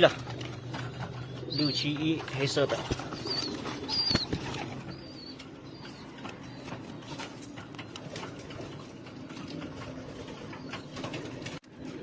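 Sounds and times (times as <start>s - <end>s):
pigeons calling: 0.0s - 12.0s.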